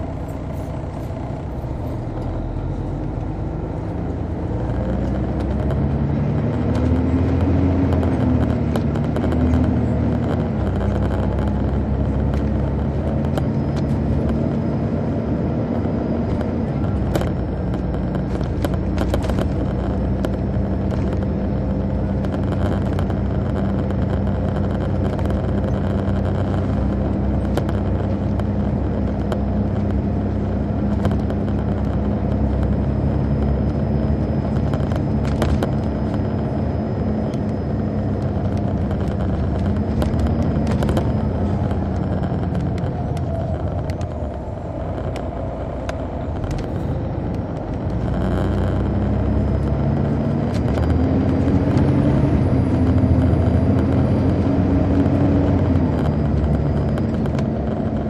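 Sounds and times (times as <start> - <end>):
bus engine running: 0.0 - 58.0
clicks and rattles: 4.4 - 58.0.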